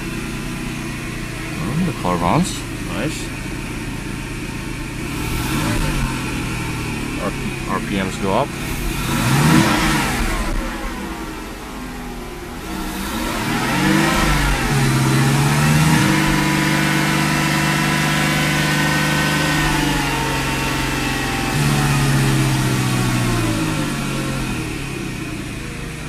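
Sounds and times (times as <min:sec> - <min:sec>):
engine revving at fast idle: 0:00.0 - 0:26.0.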